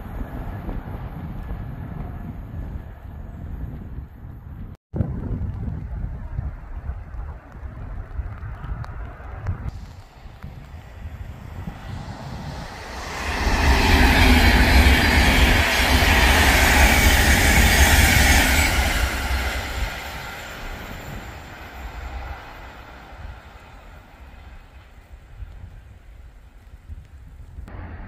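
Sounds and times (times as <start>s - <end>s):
electric train passing at speed: 0.0s - 4.6s, 8.6s - 26.7s, 27.7s - 28.0s.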